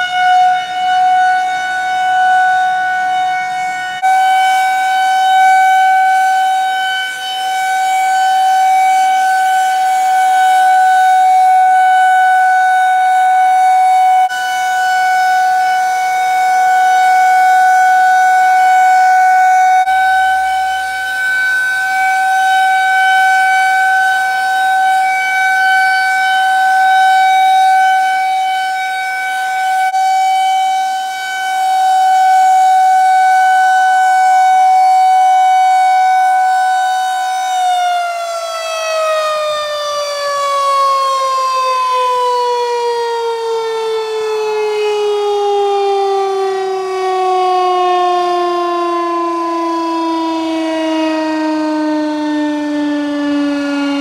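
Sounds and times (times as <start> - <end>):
tornado warning siren: 0.0 - 54.0.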